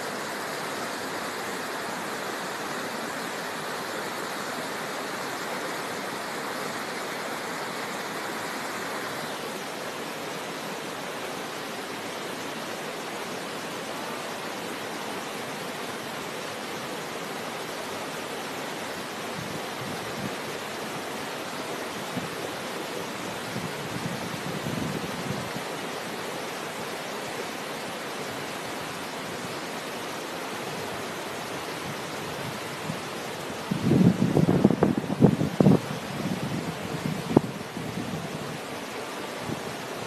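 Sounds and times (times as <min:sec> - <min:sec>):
fast-flowing river water: 0:00.0 - 0:40.0.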